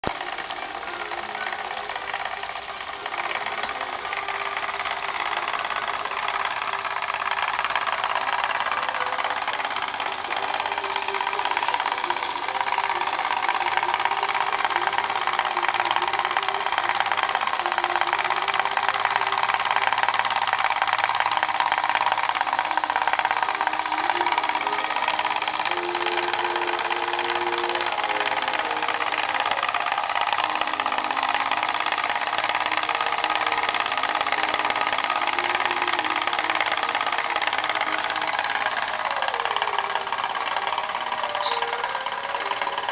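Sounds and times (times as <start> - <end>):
air exhaust hissing: 0.0 - 42.9
small steam engine beating: 0.0 - 42.9.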